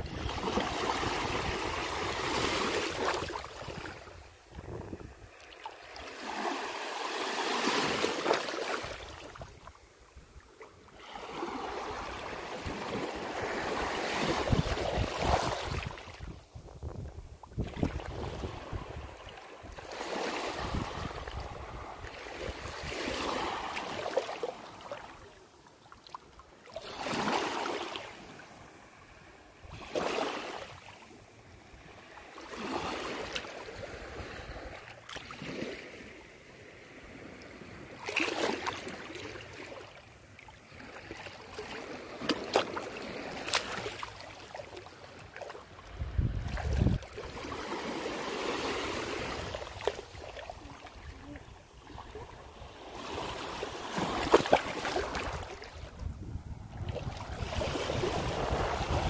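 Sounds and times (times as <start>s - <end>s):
small waves lapping on beach: 0.0s - 59.0s.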